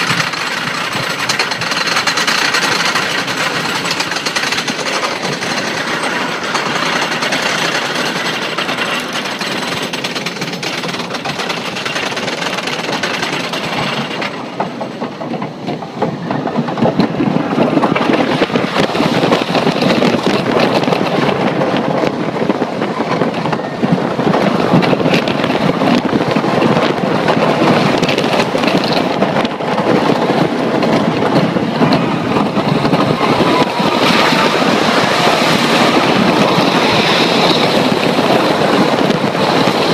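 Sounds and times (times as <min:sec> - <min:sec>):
roller coaster clattering: 0:00.0 - 0:39.9
wind on the microphone: 0:00.0 - 0:39.9.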